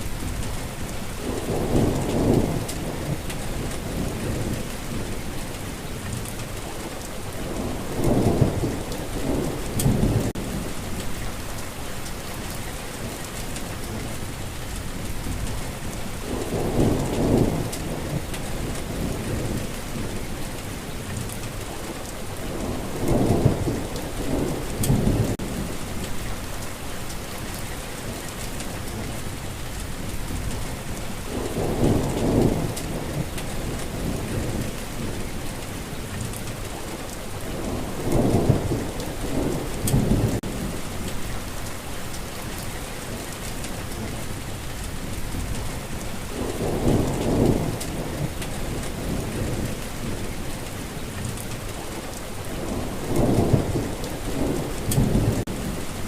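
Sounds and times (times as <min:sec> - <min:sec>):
heavy rain hissing: 0:00.0 - 0:56.0
rolling thunder rumbles: 0:00.0 - 0:56.0.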